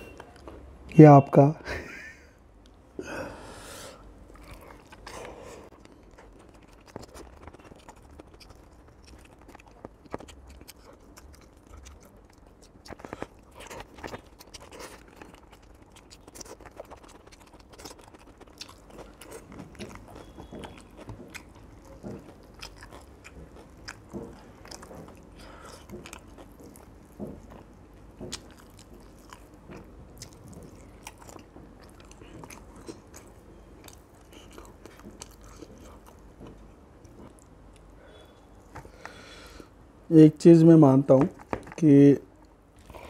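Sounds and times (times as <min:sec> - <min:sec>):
chewing rice: 0:04.0 - 0:39.8.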